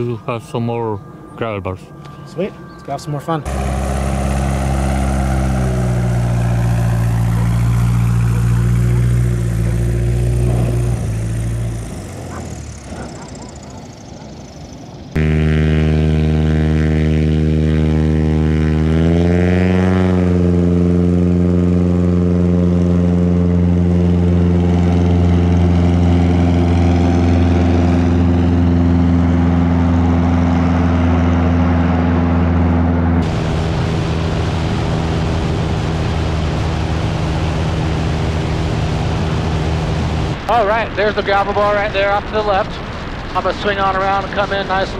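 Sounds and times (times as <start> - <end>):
light aircraft engine and propeller: 0.0 - 44.9.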